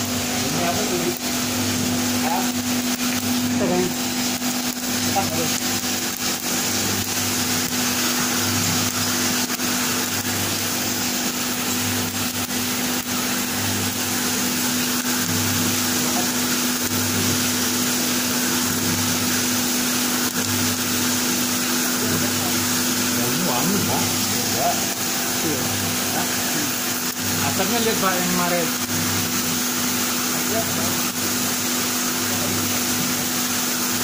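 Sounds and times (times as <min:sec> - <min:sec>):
motor and fan hum: 0:00.0 - 0:34.0.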